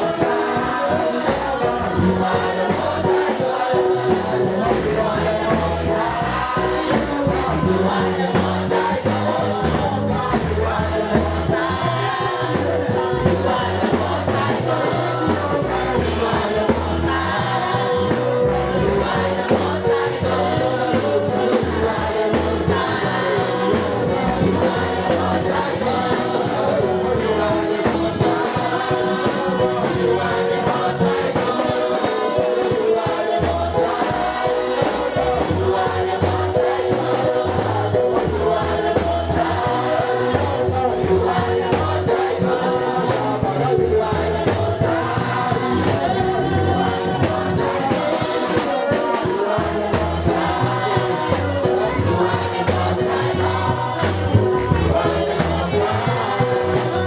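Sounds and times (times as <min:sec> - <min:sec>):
band with steady beat: 0:00.0 - 0:57.0
choir singing: 0:00.0 - 0:57.0.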